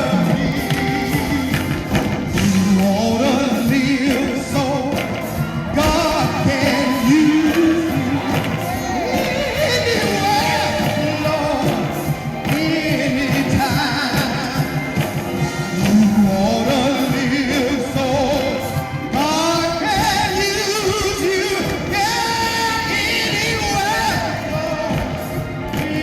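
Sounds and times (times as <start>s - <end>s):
instrumental accompaniment: 0.0s - 26.0s
people singing worship song: 0.0s - 26.0s.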